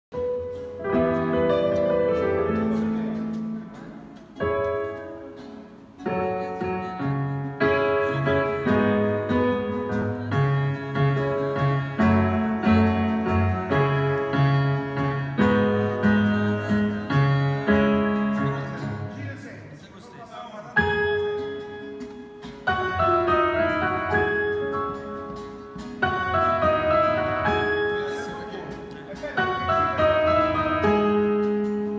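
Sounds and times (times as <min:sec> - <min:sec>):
grand piano playing: 0:00.1 - 0:31.9.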